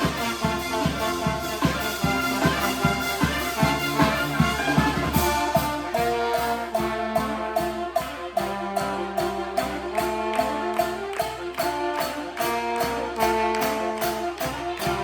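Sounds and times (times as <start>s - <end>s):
brass band playing dance tune: 0.0s - 15.0s
steady drum beat: 0.0s - 15.0s.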